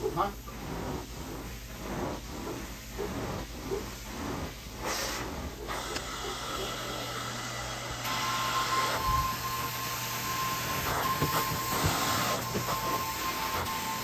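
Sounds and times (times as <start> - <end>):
carpet cleaning wand hissing: 0.0 - 14.0.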